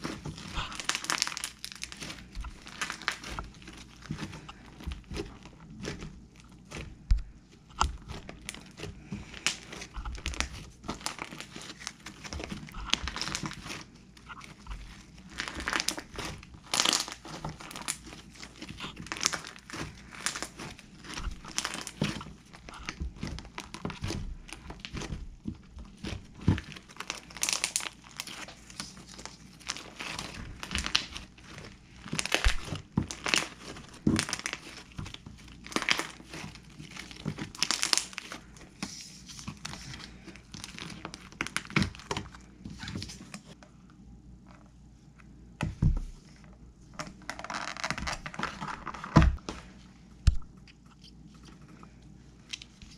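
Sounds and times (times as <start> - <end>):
slime popping and crackling: 0.0 - 42.4, 47.0 - 49.5.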